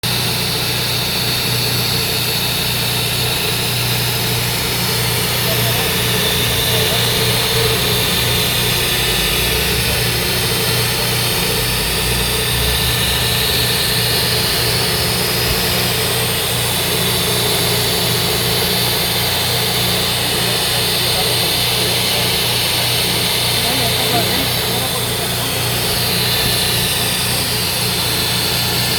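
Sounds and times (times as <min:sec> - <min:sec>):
engine drone with hiss: 0:00.0 - 0:28.9.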